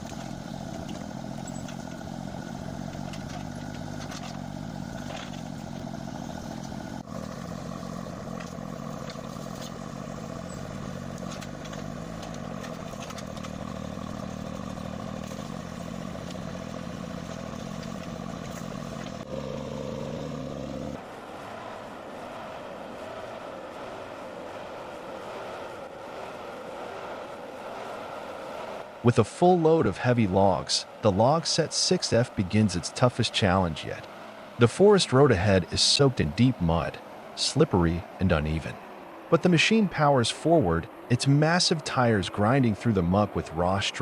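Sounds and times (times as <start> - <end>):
heavy machine engine running: 0.0 - 44.0.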